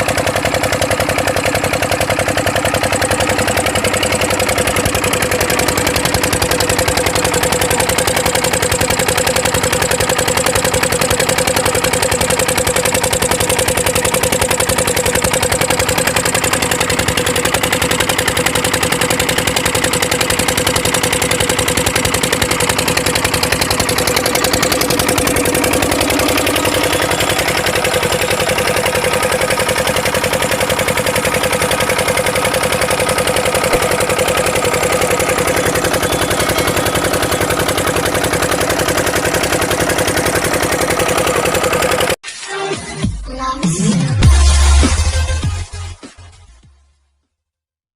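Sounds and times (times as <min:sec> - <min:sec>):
water pump engine running: 0:00.0 - 0:42.2.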